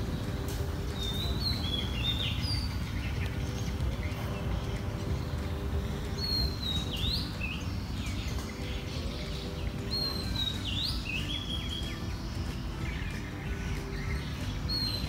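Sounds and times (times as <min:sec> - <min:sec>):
steady low background noise: 0:00.0 - 0:15.0
songbird singing whistled phrases: 0:00.9 - 0:04.3, 0:06.0 - 0:15.0.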